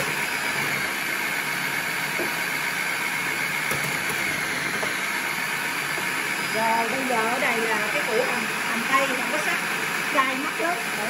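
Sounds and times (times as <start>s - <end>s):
food processor motor running: 0.0s - 11.0s.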